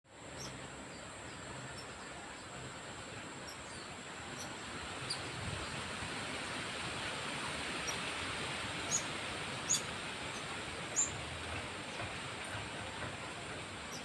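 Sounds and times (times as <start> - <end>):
even hiss: 0.1 - 14.0.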